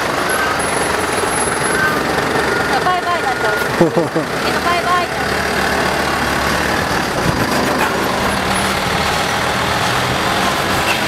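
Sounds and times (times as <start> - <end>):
fire engine driving past: 0.0 - 11.0.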